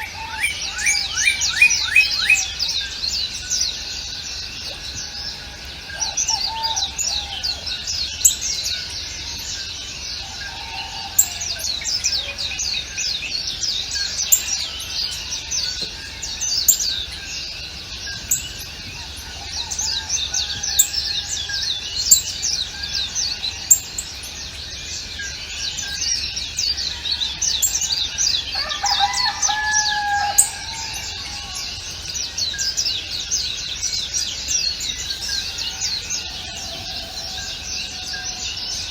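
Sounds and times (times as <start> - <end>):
many small birds chirping: 0.0 - 38.9.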